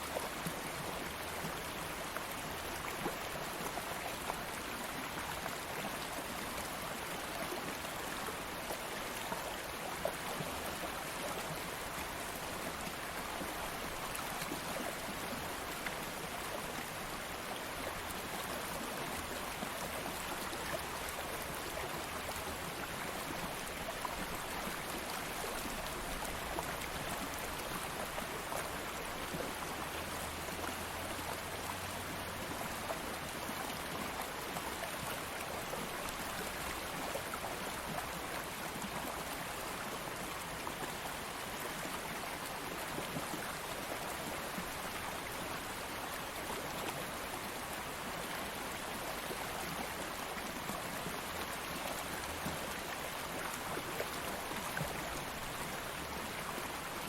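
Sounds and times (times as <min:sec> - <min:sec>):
stream water flowing over stones: 0:00.0 - 0:57.0.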